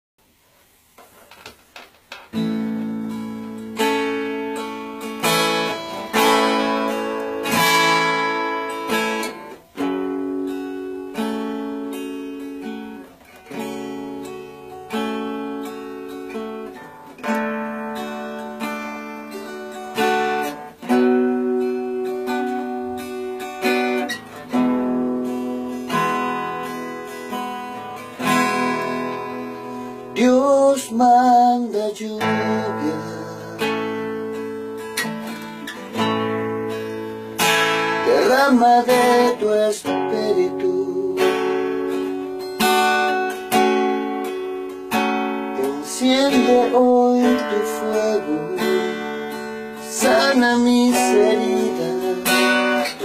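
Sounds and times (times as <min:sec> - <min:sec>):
acoustic guitar strumming chords: 0:00.9 - 0:53.0.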